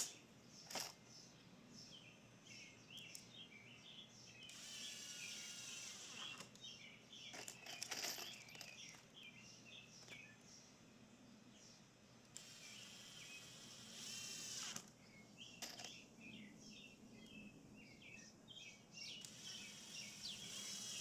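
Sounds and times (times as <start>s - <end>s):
faint birdsong chirping: 0.0s - 21.0s.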